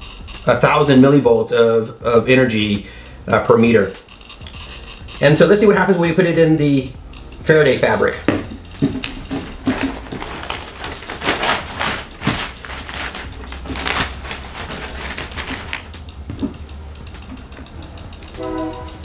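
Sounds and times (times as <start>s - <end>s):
metallic fabric crinkling: 3.5s - 19.0s.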